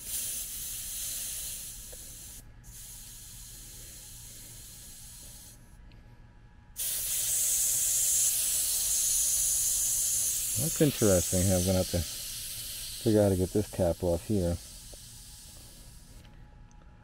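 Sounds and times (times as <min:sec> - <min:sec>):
pressurized gas hissing from valve: 0:00.0 - 0:05.6, 0:06.8 - 0:16.3.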